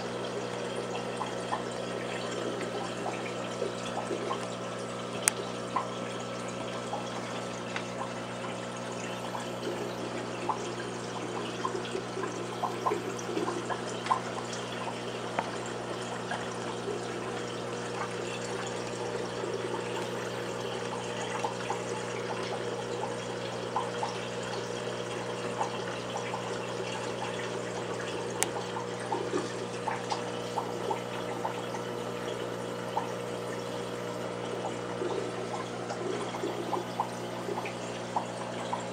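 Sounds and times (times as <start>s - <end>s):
electrical pump hum: 0.0s - 38.9s
water trickling and bubbling: 0.0s - 38.9s.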